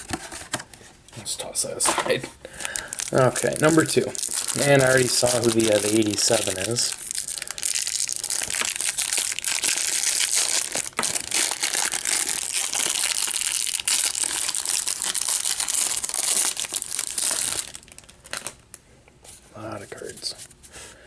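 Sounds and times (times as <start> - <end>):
packaging crinkling and tearing: 1.8 - 18.8.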